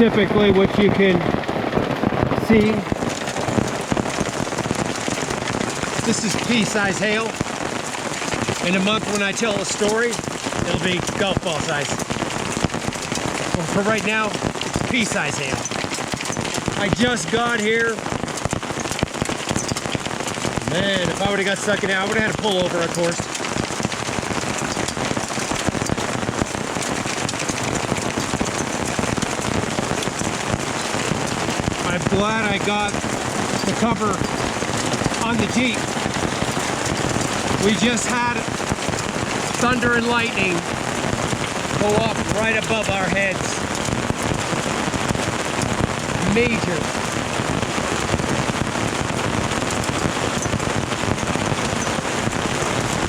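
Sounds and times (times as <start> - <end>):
hail rattling: 0.0 - 53.0.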